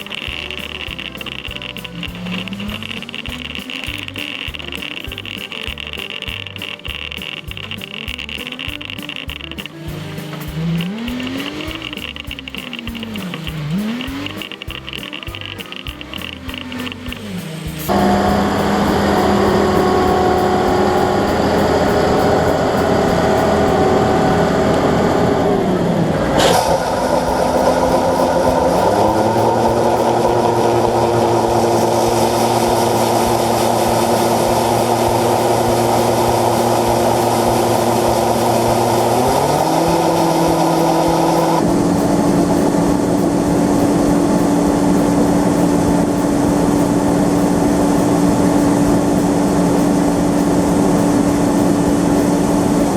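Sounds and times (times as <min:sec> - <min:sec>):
large diesel engine under load: 0:00.0 - 0:52.9.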